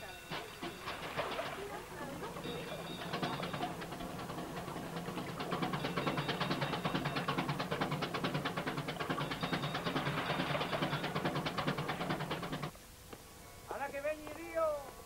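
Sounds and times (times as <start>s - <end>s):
motorboat engine chugging: 0.0s - 12.7s.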